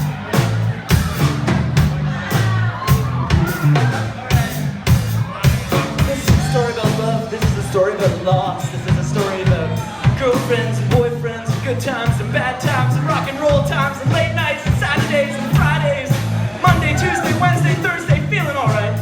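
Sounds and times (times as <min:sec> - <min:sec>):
bass line: 0:00.0 - 0:19.0
drums beat: 0:00.0 - 0:19.0.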